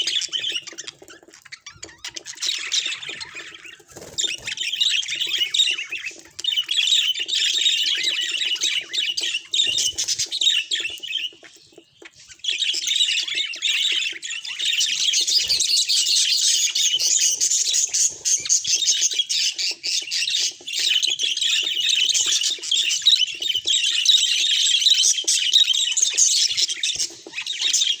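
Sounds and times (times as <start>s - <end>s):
budgerigars chattering: 0.0s - 28.0s.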